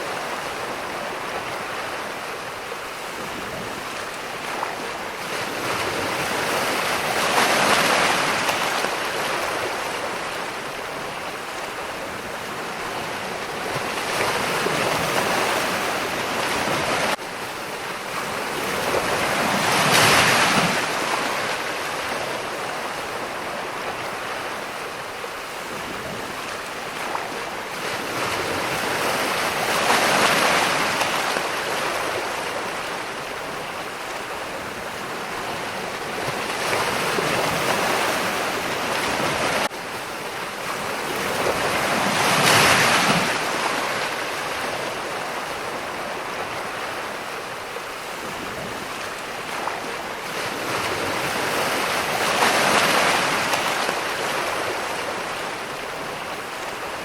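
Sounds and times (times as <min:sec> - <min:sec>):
ocean waves: 0:00.0 - 0:57.0.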